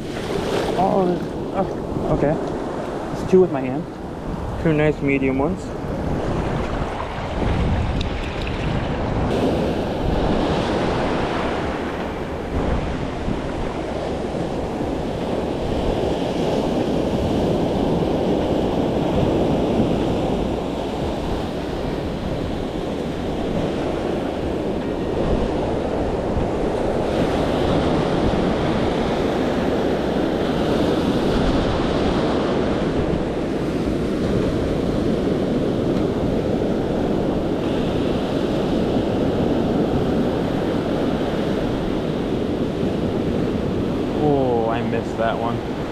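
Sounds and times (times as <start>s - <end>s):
ocean surf on sandy beach: 0.0s - 45.9s.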